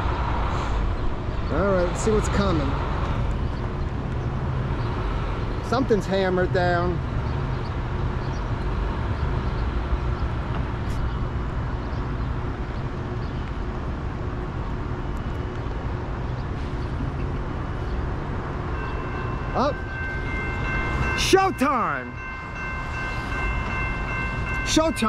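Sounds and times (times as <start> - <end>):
distant freight train rumble: 0.0 - 25.0.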